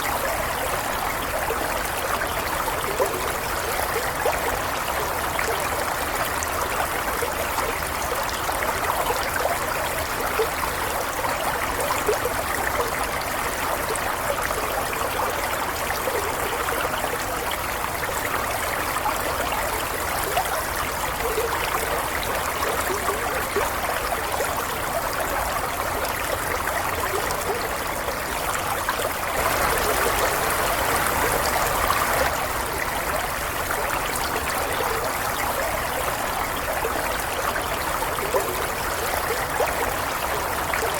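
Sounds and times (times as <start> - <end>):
running water trickling: 0.0 - 40.9.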